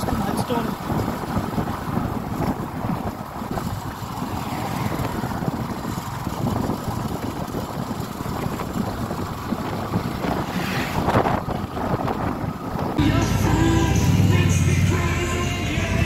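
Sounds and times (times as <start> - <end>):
wind rushing over microphone: 0.0 - 13.0
motorcycle engine and road rumble: 0.0 - 16.0
truck passing close: 0.0 - 16.0.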